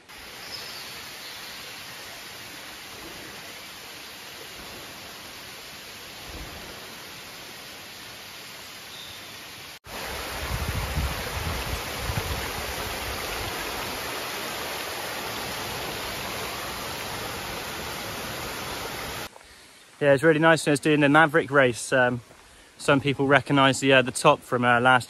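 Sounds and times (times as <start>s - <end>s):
outdoor rushing hiss: 0.0s - 24.2s.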